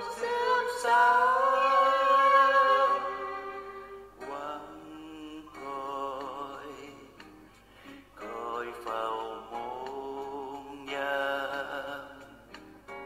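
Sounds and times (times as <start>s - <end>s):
music with sung melody: 0.0s - 13.0s.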